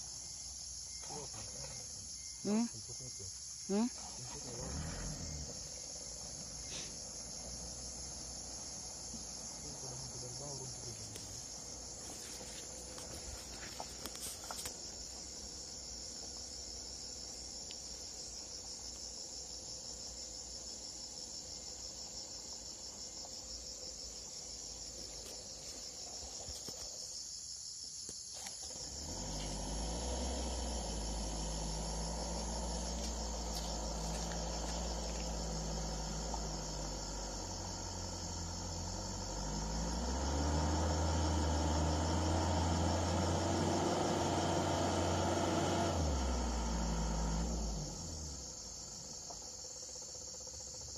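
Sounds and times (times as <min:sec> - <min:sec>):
car engine rumble: 0:00.0 - 0:50.9
forest insects droning: 0:00.0 - 0:50.9.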